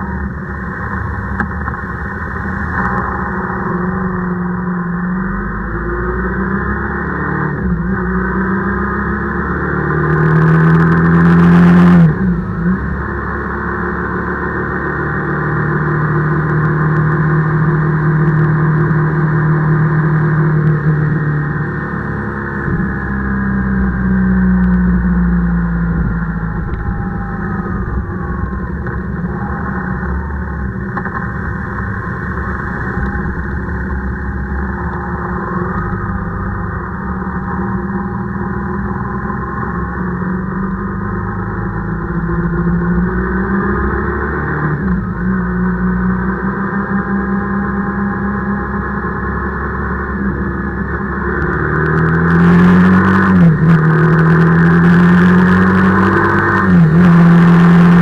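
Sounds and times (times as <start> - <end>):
vehicle engine: 0.0 - 58.0
wind and road rumble: 0.0 - 58.0.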